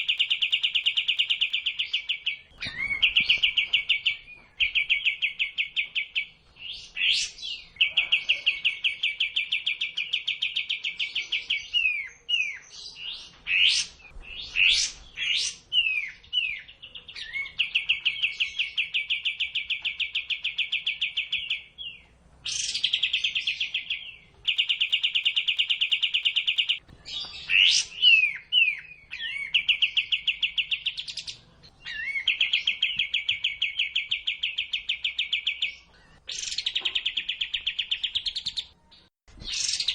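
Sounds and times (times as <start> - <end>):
whistled bird chirps: 0.0 - 8.0, 8.8 - 21.7, 22.5 - 38.7.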